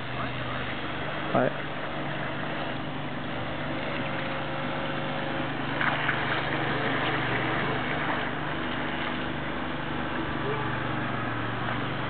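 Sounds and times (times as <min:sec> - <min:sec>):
model boat motor hum: 0:00.0 - 0:12.0.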